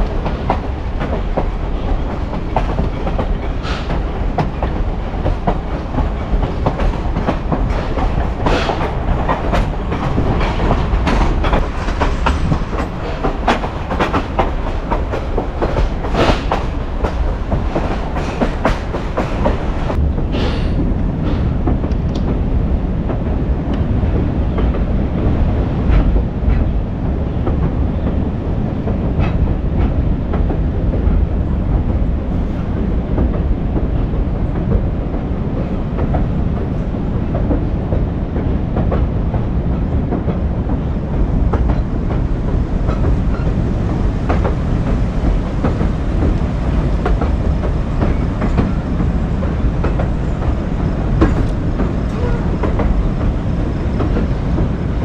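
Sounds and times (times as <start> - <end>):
train rumble: 0.0 - 55.0
train wheels clacking: 0.0 - 55.0.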